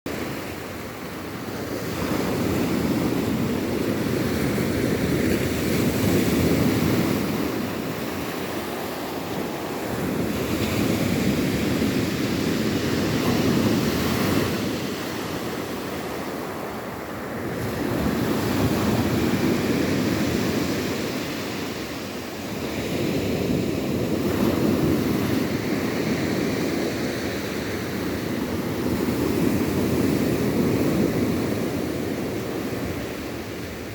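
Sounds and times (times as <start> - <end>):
wind: 0.0 - 33.9.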